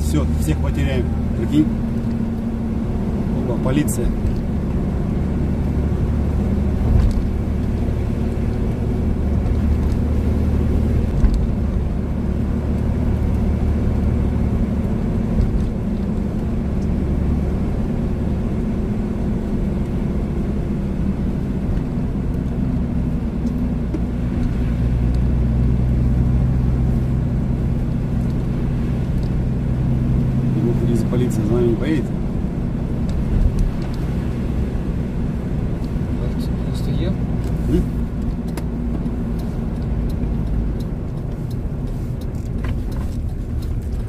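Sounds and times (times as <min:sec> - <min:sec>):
car engine drone: 0:00.0 - 0:44.0
road noise: 0:00.0 - 0:44.0.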